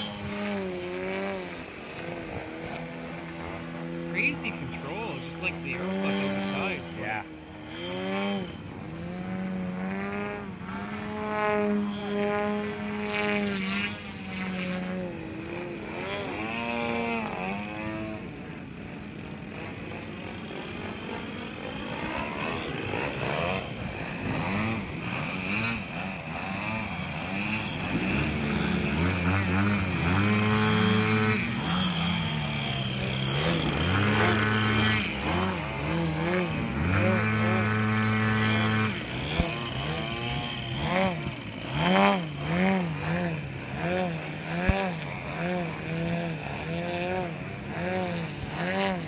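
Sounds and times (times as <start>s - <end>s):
model plane engine: 0.0s - 49.0s.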